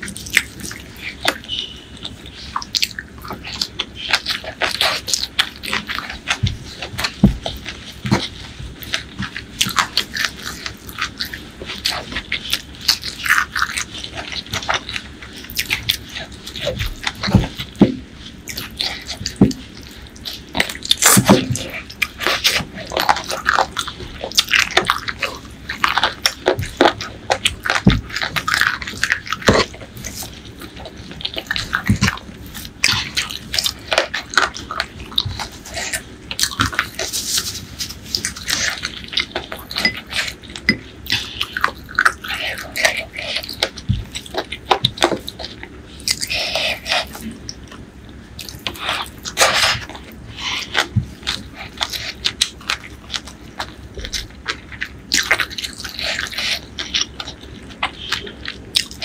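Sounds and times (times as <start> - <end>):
wet chewing and lip smacks: 0.0 - 59.0.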